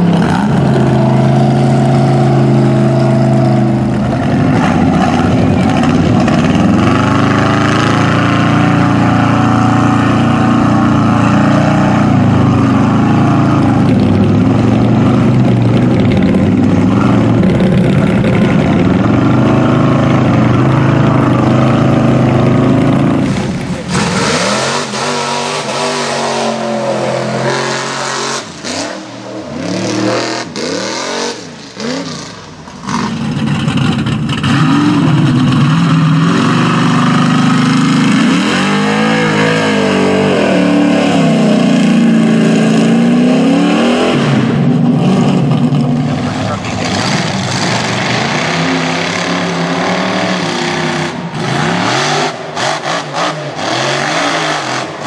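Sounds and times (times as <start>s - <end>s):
truck engines at high revs: 0.0s - 55.0s
truck revving up and down: 0.0s - 55.0s.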